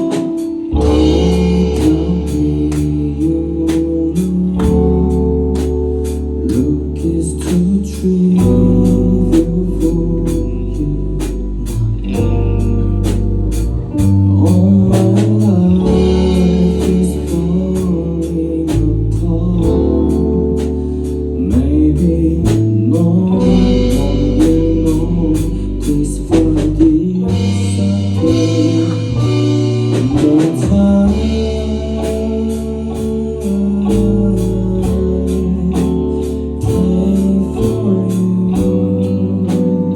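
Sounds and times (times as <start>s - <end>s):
band playing a song: 0.0s - 39.9s
person singing: 0.0s - 39.9s.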